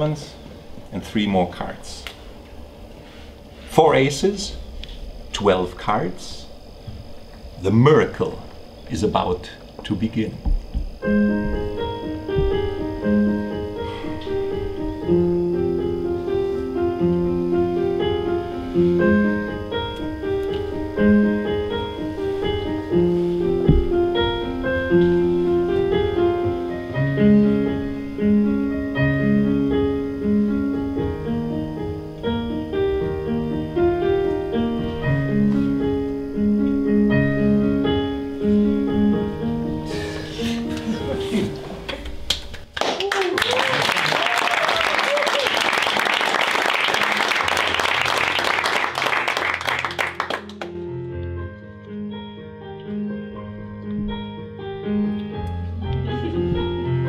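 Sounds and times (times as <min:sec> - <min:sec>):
piano music: 0:03.6 - 0:42.7, 0:44.3 - 0:57.0.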